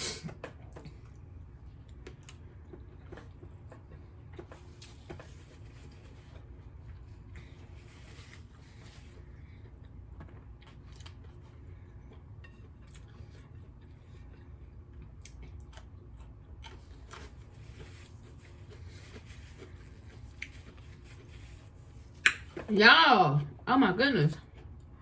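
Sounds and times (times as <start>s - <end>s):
low steady hum: 0.0s - 25.0s
person chewing food: 0.3s - 22.7s.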